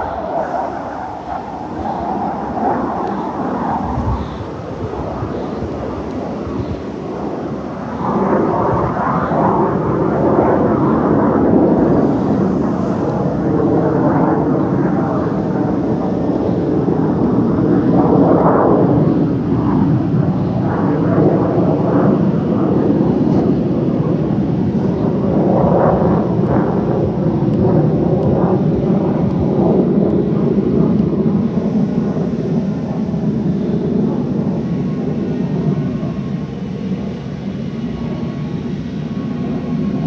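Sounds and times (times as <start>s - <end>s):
jet flying over roaring: 0.0s - 40.0s.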